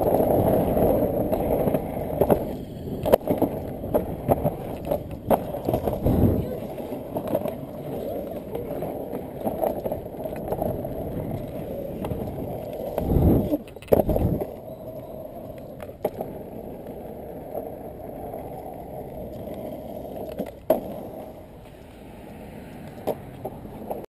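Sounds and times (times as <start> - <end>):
board wheels rolling on asphalt: 0.0 - 24.0.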